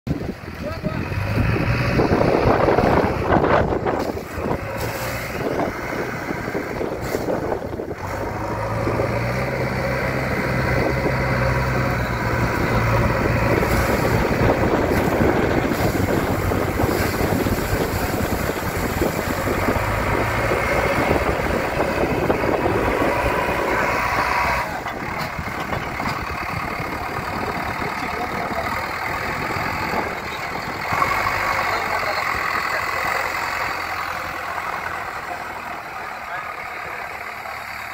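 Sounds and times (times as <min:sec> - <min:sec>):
diesel engine running: 0:00.1 - 0:37.9
water churning around wheels: 0:00.2 - 0:37.9.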